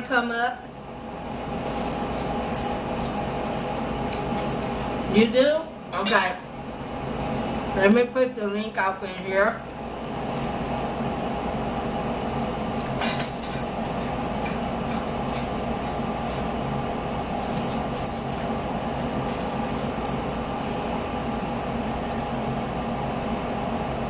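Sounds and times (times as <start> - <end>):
room hum: 0.0 - 24.0.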